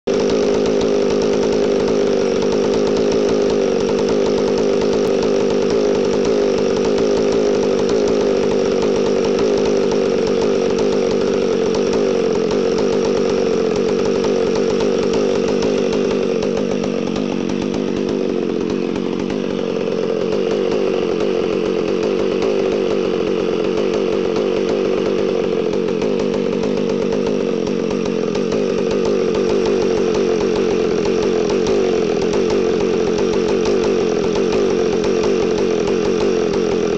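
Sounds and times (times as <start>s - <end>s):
chainsaw engine idling: 0.0s - 36.9s.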